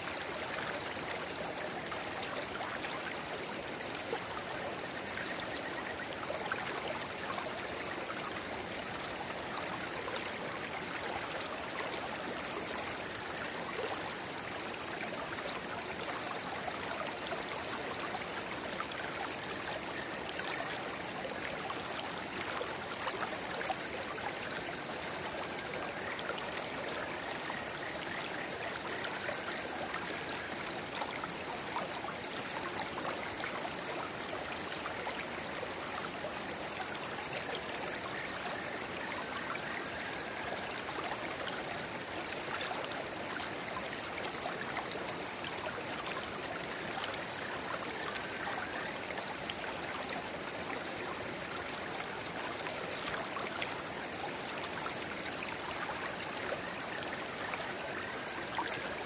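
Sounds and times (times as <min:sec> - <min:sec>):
water babbling and trickling: 0:00.0 - 0:59.0.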